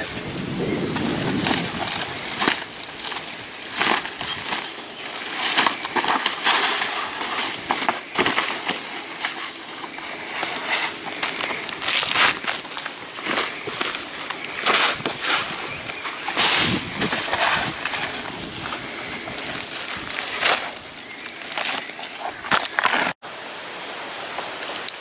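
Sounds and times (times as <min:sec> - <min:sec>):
shingles scraping and tearing: 0:00.3 - 0:23.2.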